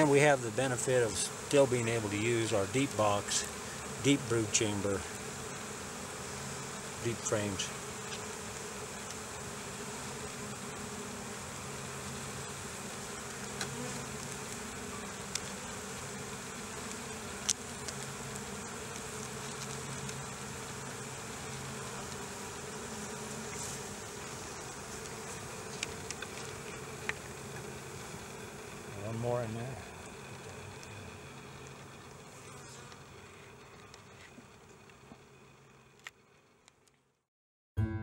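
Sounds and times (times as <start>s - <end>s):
honeybees buzzing: 0.0s - 36.5s.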